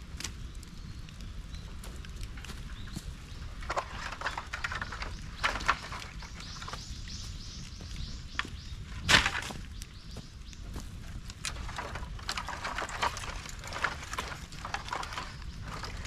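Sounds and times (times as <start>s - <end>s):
bamboo crackling in a bonfire: 0.0s - 16.0s
sharp pops and cracks: 0.0s - 16.0s.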